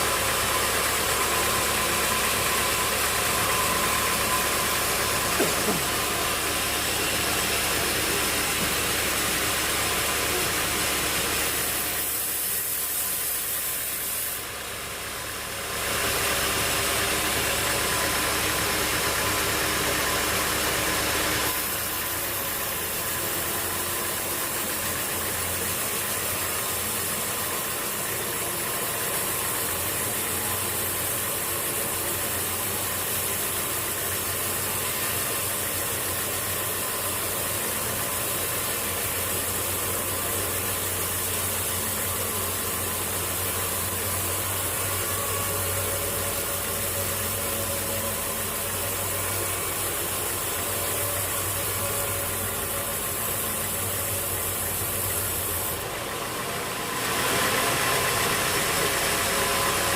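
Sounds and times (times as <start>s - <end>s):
engine hum: 0.0s - 59.9s
sawmill machinery running: 0.0s - 59.9s.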